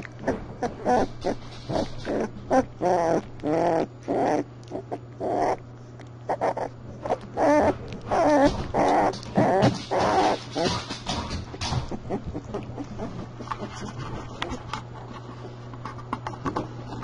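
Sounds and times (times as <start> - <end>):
puppies crying and whining: 0.0 - 14.7
faint steady hum: 0.0 - 17.0.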